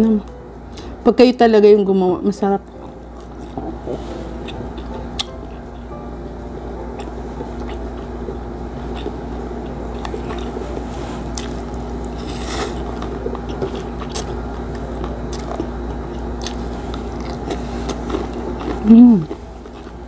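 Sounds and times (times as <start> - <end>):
person chewing food: 2.7 - 5.9, 6.8 - 20.0.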